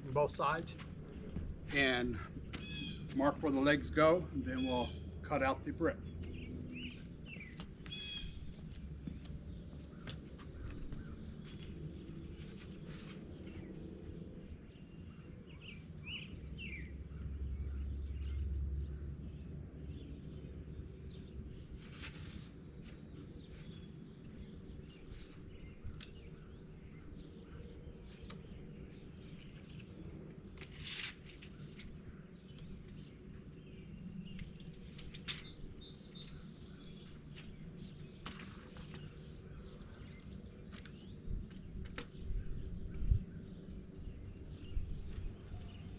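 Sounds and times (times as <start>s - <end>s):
steady low rumble: 0.0s - 30.6s, 39.3s - 45.9s
small birds chirping: 0.0s - 45.9s.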